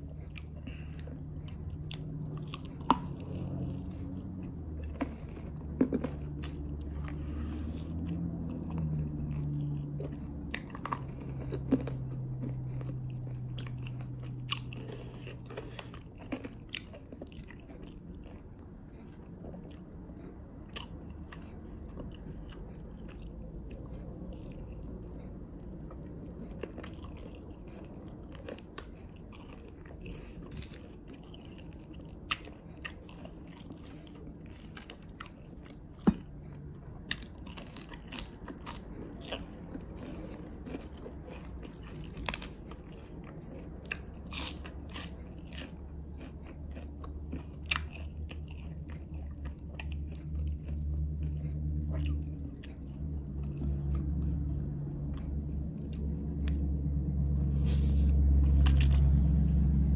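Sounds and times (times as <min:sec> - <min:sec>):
biting and chewing with crunches: 0:00.0 - 0:59.9.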